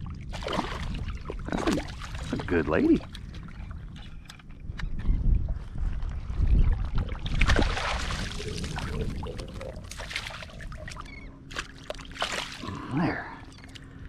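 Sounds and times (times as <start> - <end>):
faint steady hum: 0.0 - 14.0
water sloshing and splashing: 0.0 - 14.0.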